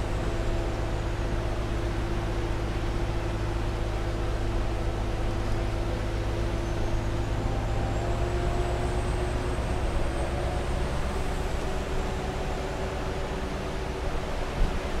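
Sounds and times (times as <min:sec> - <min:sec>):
bus engine droning: 0:00.0 - 0:15.0
faint high whine: 0:00.0 - 0:15.0.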